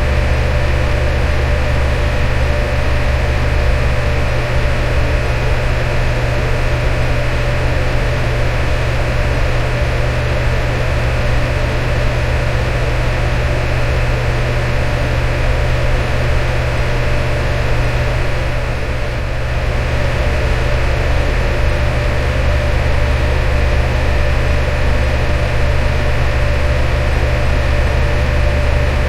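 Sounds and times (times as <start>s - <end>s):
electric fan running: 0.0s - 29.0s.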